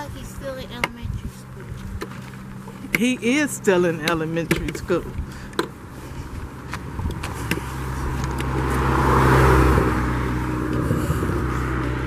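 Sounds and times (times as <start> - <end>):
motor vehicle passing: 0.0 - 12.0.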